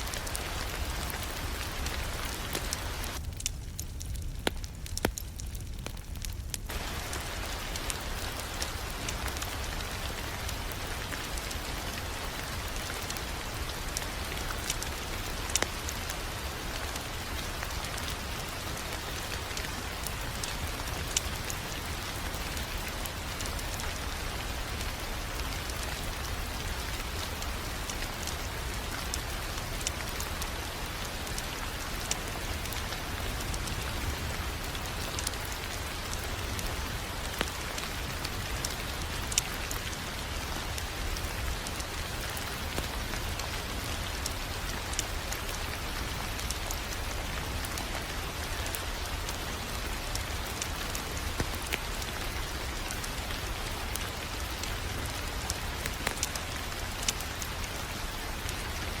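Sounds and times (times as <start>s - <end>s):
rain-like patter and hiss: 0.0s - 59.0s
wood fire crackling: 0.0s - 59.0s.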